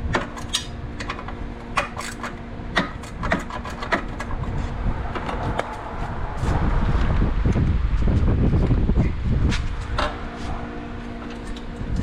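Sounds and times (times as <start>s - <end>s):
rumbling handling noise: 0.0s - 12.0s.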